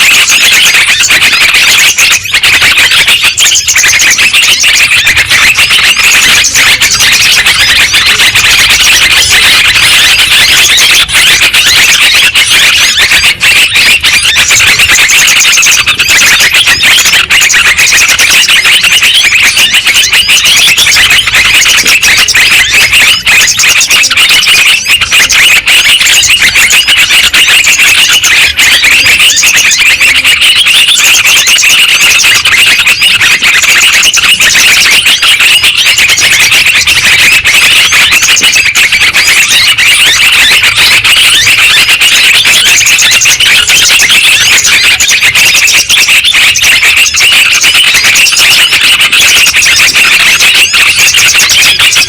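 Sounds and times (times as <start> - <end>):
bulbuls chattering chorus: 0.0 - 52.0.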